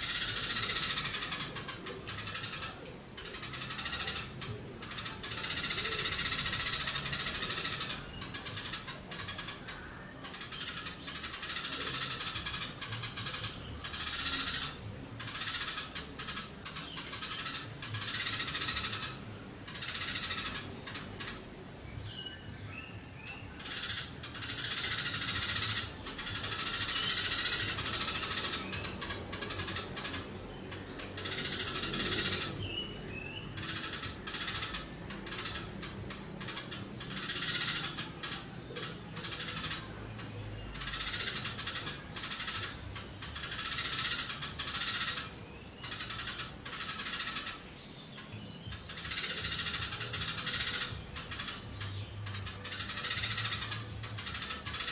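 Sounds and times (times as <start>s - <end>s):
sparrow chirping in rapid bursts: 0.0s - 54.9s.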